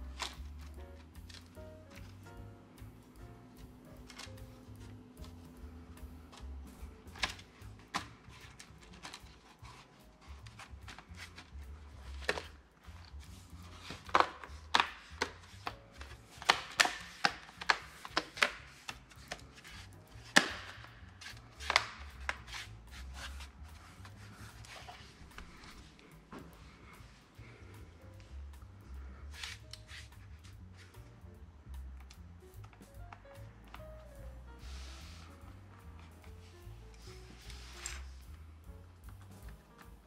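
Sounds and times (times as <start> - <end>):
faint background music: 0.0 - 40.0.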